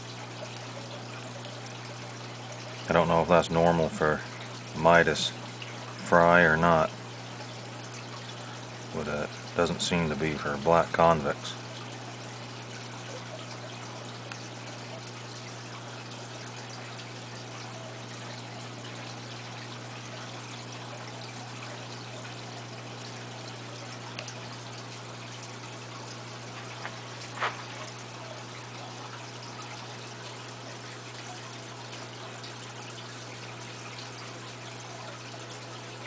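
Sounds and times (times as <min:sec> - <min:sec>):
tank filter hum: 0:00.0 - 0:36.0
water trickling: 0:00.0 - 0:36.0.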